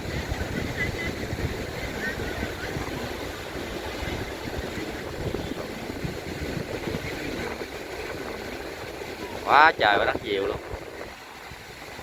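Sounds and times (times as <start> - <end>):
surf rushing: 0.0 - 12.0
wind buffeting microphone: 0.0 - 12.0.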